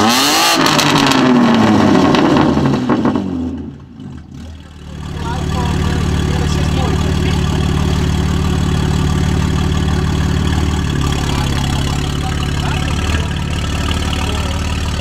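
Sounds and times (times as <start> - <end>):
car engine idling: 0.9 - 15.0.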